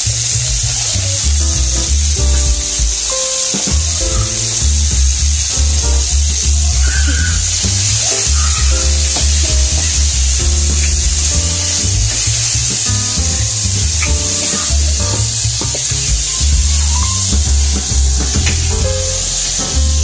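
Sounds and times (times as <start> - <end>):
background music with bass: 0.0 - 20.0
vegetables sizzling in a pan: 0.0 - 20.0.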